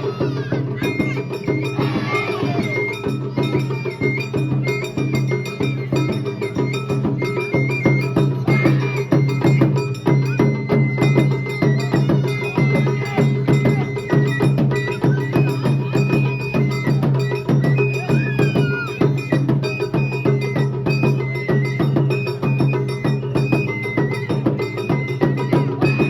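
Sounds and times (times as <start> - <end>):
fast metallic percussion: 0.0 - 26.0
high flute melody: 0.0 - 26.0.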